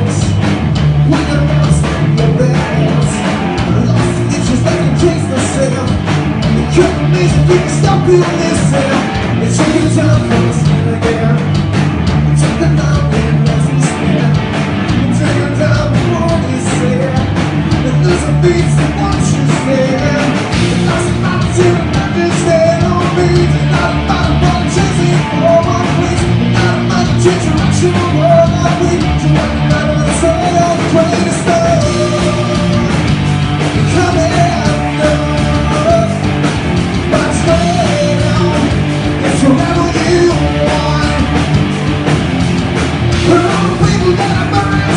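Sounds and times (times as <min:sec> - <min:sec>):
man singing: 0:00.0 - 0:00.4, 0:01.0 - 0:11.6, 0:12.2 - 0:33.1, 0:33.7 - 0:36.3, 0:37.0 - 0:41.6, 0:43.1 - 0:44.9
rock band playing loud: 0:00.0 - 0:44.9.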